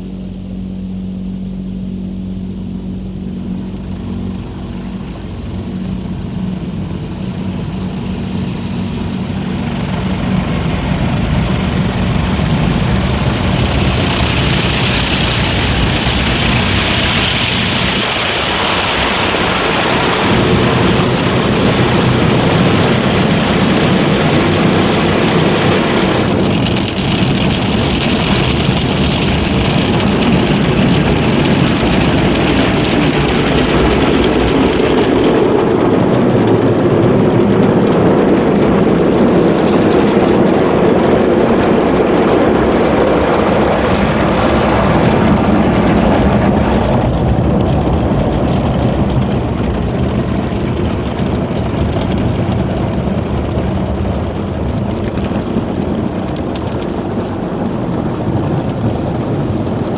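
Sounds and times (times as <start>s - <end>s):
car wash water spray rushing: 0.0s - 59.9s.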